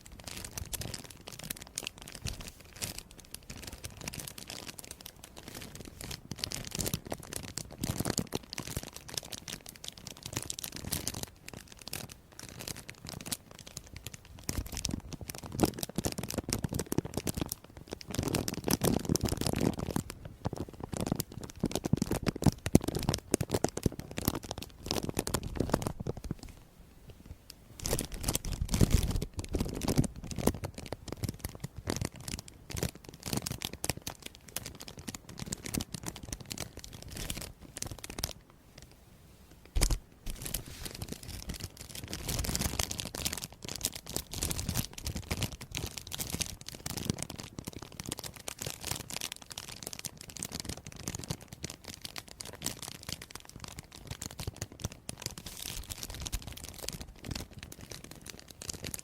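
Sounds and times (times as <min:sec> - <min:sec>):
crisp crackling and scratching: 0:00.0 - 0:59.0.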